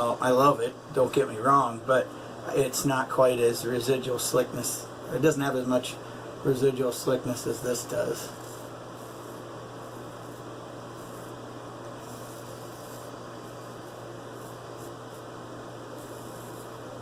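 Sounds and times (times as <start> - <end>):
low electrical hum: 0.0 - 17.0
steady hiss: 0.0 - 17.0.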